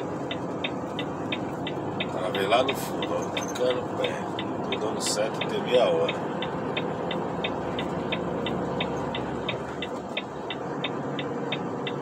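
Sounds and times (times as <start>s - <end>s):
engine and road hum: 0.0s - 12.0s
turn signal ticking: 0.0s - 12.0s.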